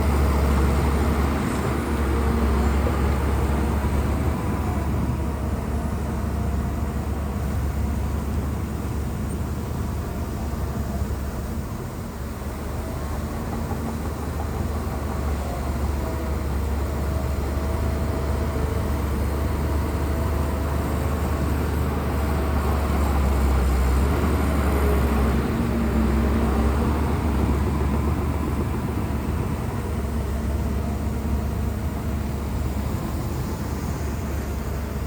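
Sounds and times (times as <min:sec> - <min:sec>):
bulldozer diesel engine rumbling: 0:00.0 - 0:35.0.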